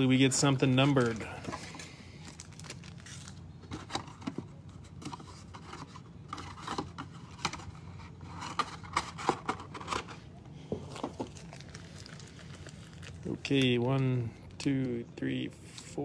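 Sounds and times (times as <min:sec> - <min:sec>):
foil packs and cardboard handled: 0:00.0 - 0:16.0.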